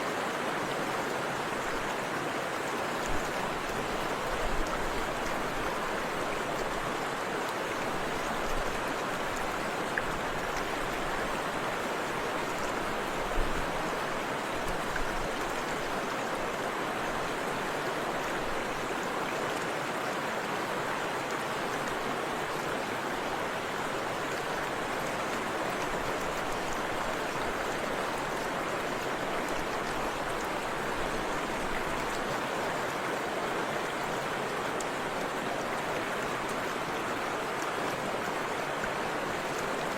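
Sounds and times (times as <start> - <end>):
water rushing over waterfall: 0.0 - 39.9.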